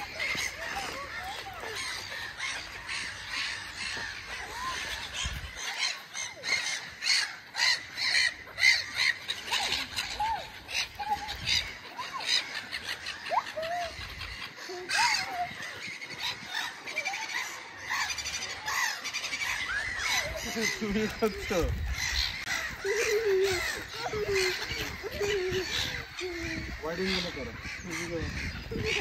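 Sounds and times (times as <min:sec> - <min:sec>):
gulls calling: 0:00.0 - 0:29.0.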